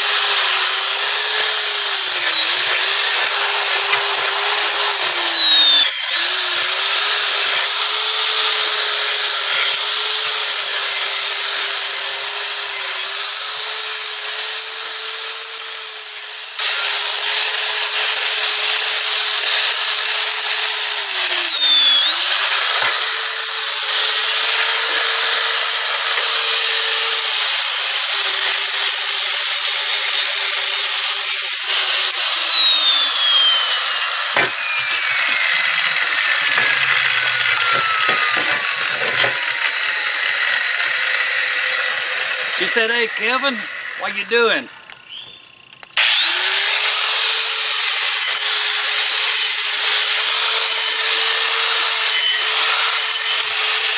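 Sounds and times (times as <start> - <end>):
angle grinder grinding metal: 0.0 - 53.9.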